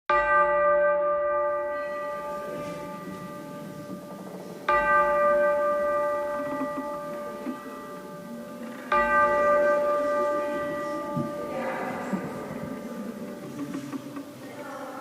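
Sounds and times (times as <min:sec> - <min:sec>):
bell ringing: 0:00.1 - 0:14.4.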